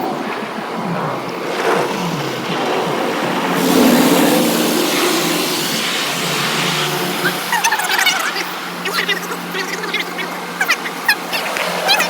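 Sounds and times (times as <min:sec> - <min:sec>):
car wash machinery hum: 0:00.0 - 0:12.0
rushing hissing wash noise: 0:00.0 - 0:12.0.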